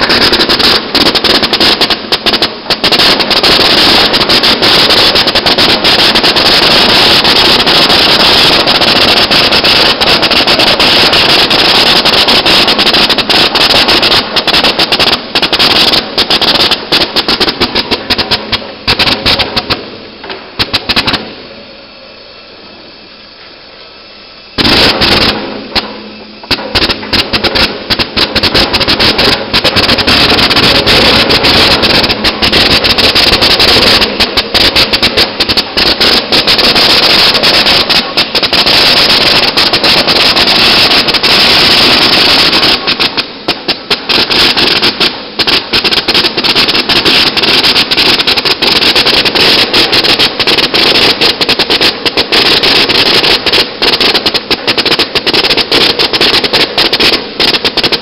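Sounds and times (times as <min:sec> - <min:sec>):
rapid clatter of hard clicks: 0:00.0 - 0:21.3, 0:24.6 - 0:58.0
machine hum: 0:00.0 - 0:58.0.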